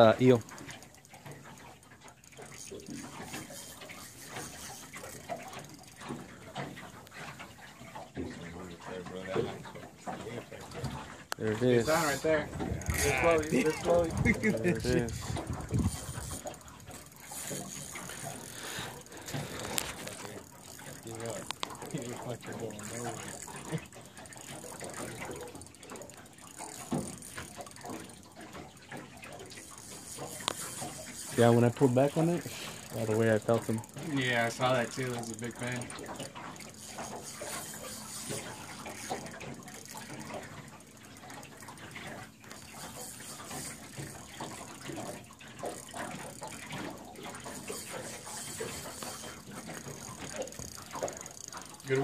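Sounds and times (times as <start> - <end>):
fishing reel ticking: 0.0 - 52.0
water lapping against boat: 0.0 - 52.0.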